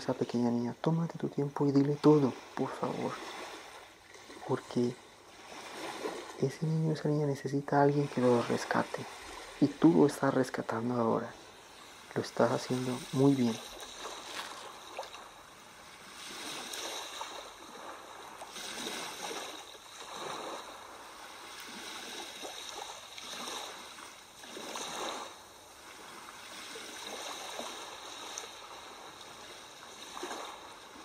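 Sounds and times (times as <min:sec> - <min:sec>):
water washing like waves: 0:00.0 - 0:31.0.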